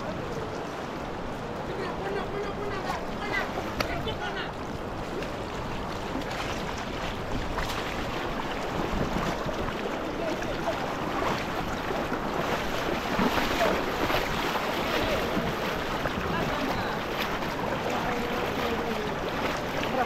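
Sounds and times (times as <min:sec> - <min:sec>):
flowing water: 0:00.0 - 0:20.0.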